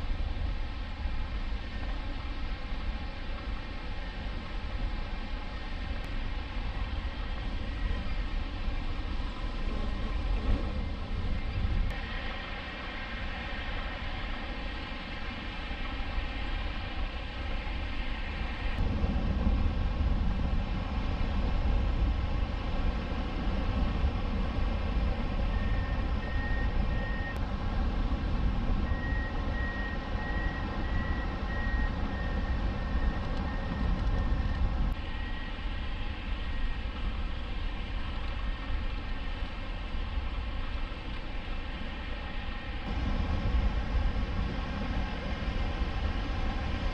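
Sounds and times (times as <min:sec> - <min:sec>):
faint steady hum: 0:00.0 - 0:46.9
wind rushing over microphone: 0:00.0 - 0:46.9.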